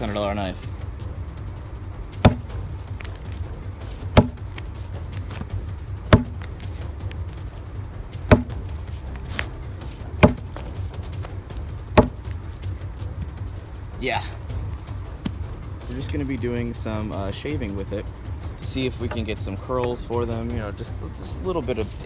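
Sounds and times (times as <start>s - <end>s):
low rumble: 0.0s - 21.4s.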